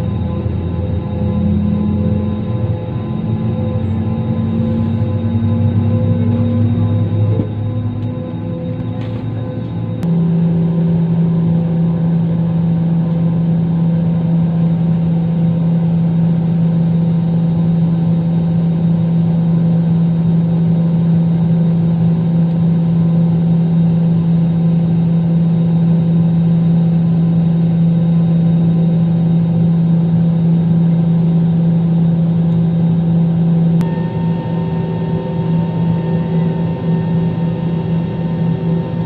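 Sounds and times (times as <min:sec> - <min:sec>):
airplane cabin engine drone: 0:00.0 - 0:39.0.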